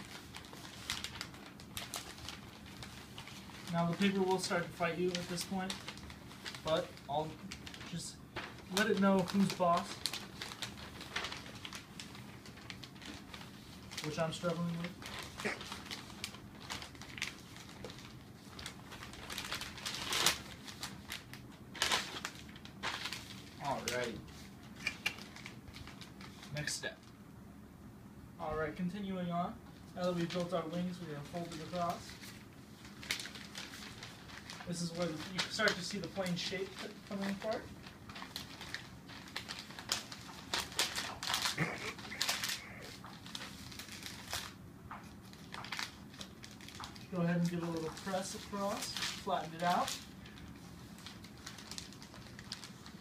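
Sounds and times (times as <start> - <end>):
paper rustling and crinkling: 0.0 - 27.2, 29.7 - 53.0.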